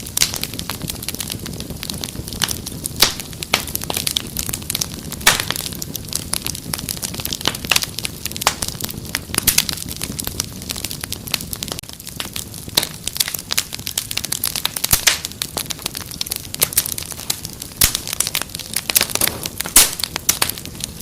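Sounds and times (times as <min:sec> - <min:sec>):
low rush of flames: 0:00.0 - 0:21.0
wood fire crackling: 0:00.0 - 0:21.0.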